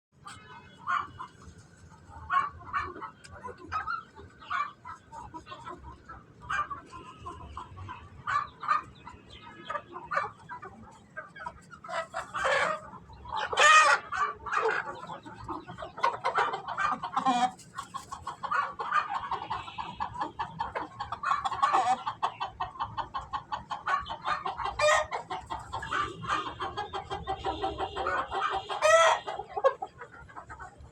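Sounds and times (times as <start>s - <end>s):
chickens clucking: 0.2s - 30.9s
sharp chicken calls: 0.2s - 30.9s.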